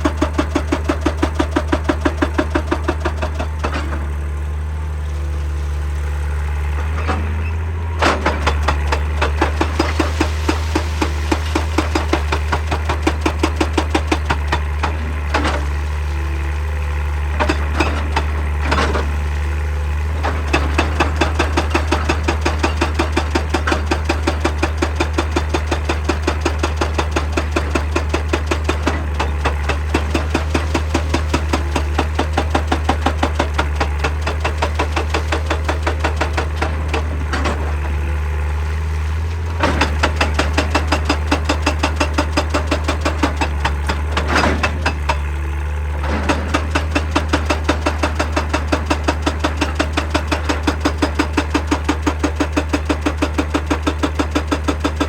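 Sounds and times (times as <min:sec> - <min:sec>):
hydraulic breaker hammering rock: 0:00.0 - 0:04.7, 0:06.2 - 0:55.0
diesel engine drone: 0:00.0 - 0:55.0.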